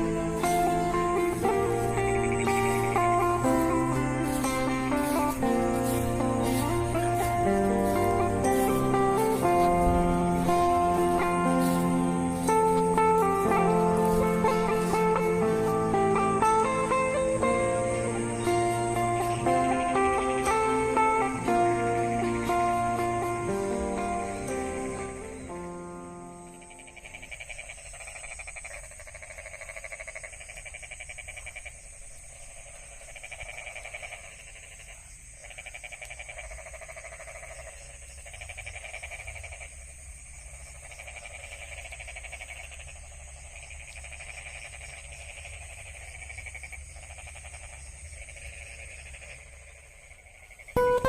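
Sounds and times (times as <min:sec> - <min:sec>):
frogs calling in pulsed trills: 0:00.0 - 0:51.0
high-pitched insect drone: 0:00.0 - 0:51.0.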